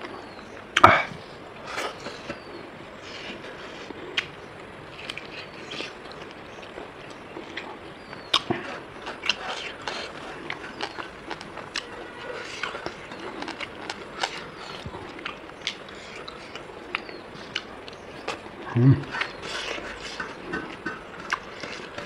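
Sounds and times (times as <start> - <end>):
chewing and mouth smacks: 3.1 - 22.0.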